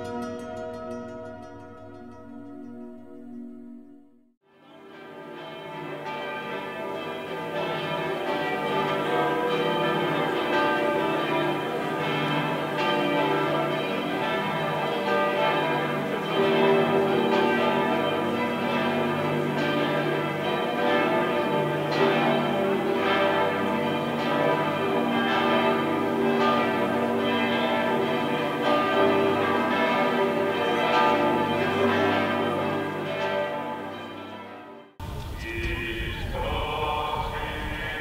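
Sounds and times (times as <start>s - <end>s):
church bells pealing: 0.0s - 3.8s, 4.5s - 38.0s.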